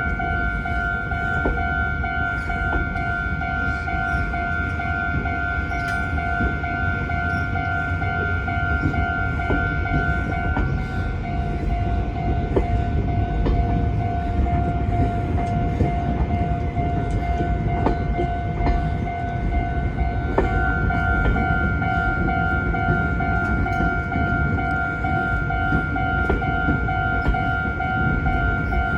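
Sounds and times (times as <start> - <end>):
level-crossing alarm bell: 0.0 - 28.9
train rumbling over crossing: 0.0 - 28.9
wheels clacking over rail joints: 0.0 - 28.9.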